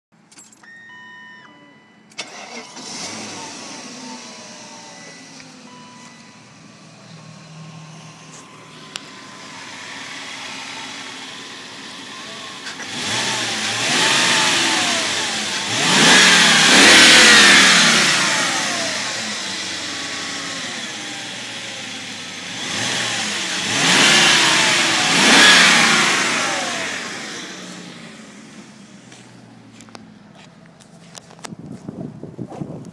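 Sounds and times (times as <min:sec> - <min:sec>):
car engine starting and idling: 0:00.2 - 0:32.9
car engine revving: 0:02.2 - 0:31.5.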